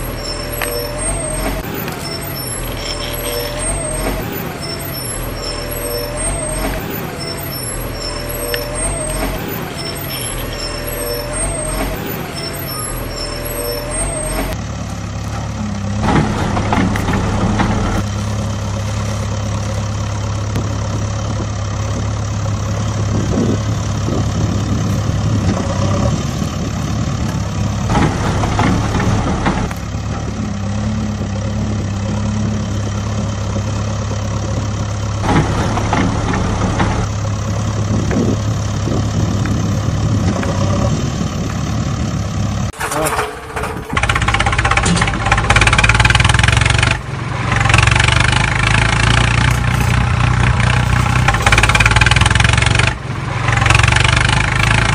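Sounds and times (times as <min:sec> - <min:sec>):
heavy truck engine: 0:00.0 - 0:54.9.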